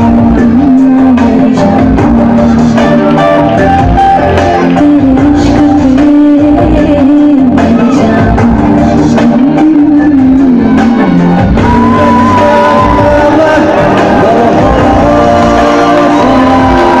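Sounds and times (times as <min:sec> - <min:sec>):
loud music with singing over pa: 0:00.0 - 0:17.0.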